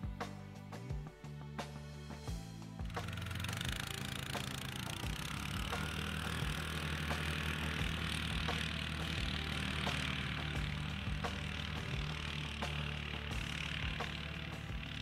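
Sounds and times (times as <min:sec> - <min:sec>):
atv engine running: 0:02.3 - 0:15.0.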